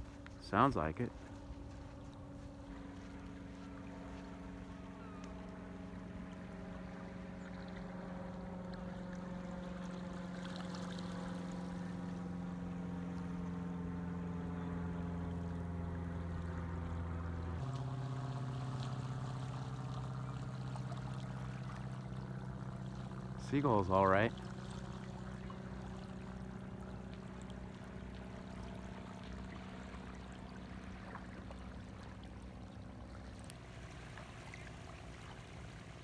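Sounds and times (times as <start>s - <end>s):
boat engine humming: 0.0s - 36.0s.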